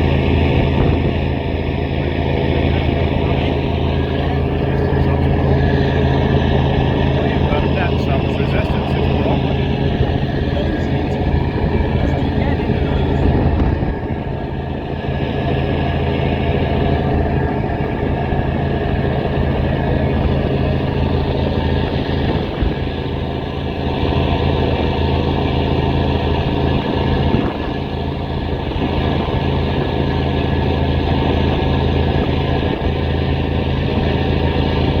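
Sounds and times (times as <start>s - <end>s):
marine diesel engine droning: 0.0s - 35.0s.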